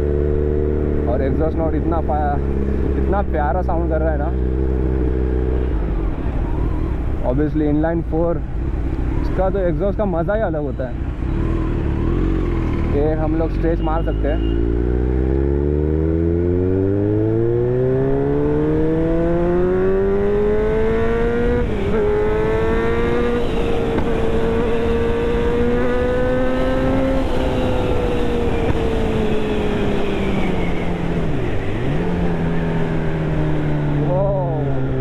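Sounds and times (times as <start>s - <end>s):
motorcycle engine accelerating: 0.0s - 7.2s, 11.1s - 35.0s.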